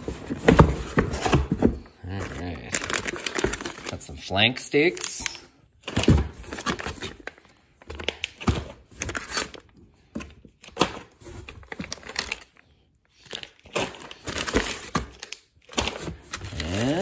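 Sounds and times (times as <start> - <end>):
plastic packs crinkling: 0.0 - 17.0.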